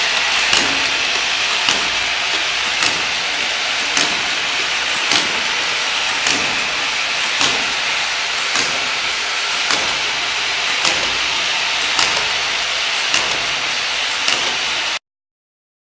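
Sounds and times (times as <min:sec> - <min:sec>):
machine clacking: 0:00.0 - 0:15.0
machine hissing: 0:00.0 - 0:15.0.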